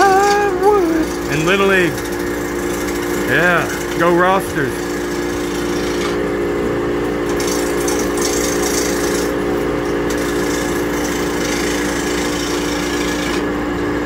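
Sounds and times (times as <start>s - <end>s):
turning tool cutting wood: 0.0s - 14.0s
wood lathe motor hum: 0.0s - 14.0s.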